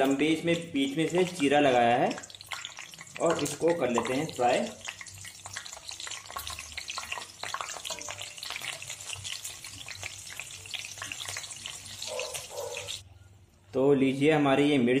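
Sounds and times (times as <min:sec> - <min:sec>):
chillies sizzling in hot oil: 0:00.0 - 0:13.0
wire skimmer stirring oil: 0:00.0 - 0:13.0.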